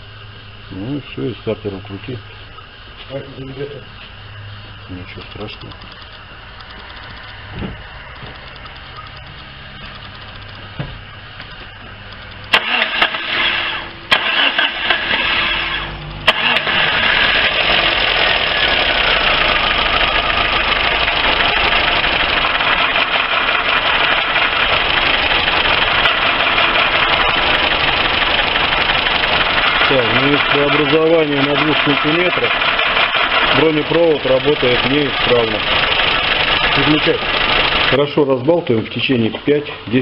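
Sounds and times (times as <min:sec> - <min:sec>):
car engine running: 0:00.0 - 0:40.0
car engine cranking: 0:05.0 - 0:39.4.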